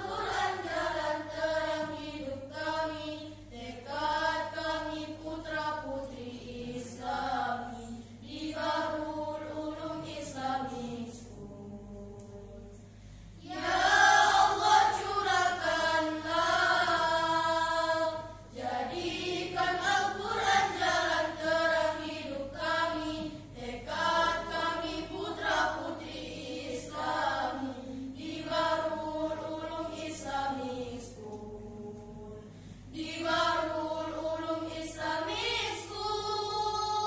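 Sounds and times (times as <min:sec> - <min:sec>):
girls' choir singing a hymn: 0:00.0 - 0:12.8, 0:13.4 - 0:37.0.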